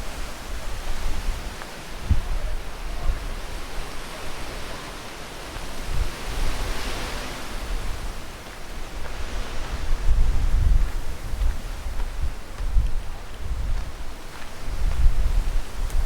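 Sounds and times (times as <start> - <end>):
wind thumping microphone: 0.0 - 4.8, 5.5 - 16.0
wind rushing through trees: 0.0 - 16.0.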